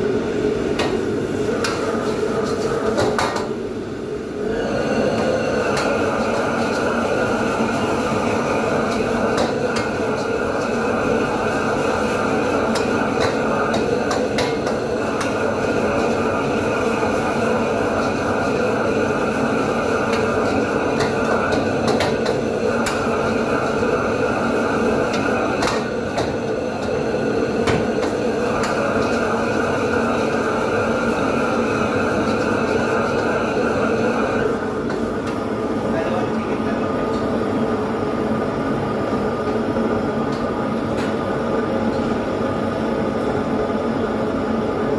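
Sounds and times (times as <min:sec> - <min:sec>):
gas burner roaring: 0:00.0 - 0:44.9.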